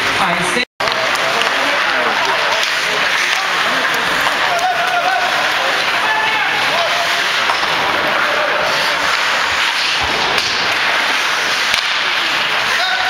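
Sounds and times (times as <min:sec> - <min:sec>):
ice rink noise: 0:00.0 - 0:13.0
hockey stick and puck cracks: 0:00.8 - 0:13.0.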